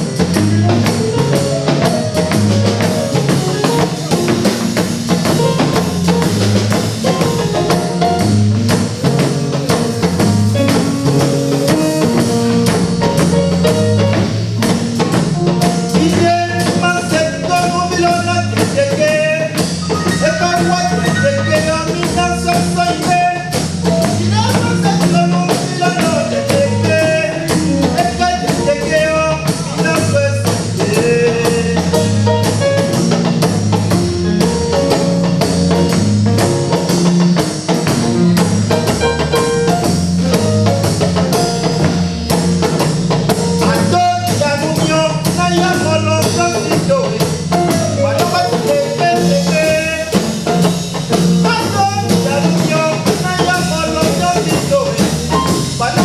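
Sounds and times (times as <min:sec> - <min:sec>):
band music with drum beat: 0:00.0 - 0:56.0.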